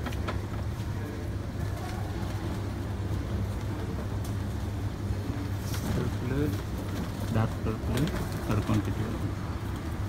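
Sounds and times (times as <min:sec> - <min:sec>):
low indoor hum: 0:00.0 - 0:10.0.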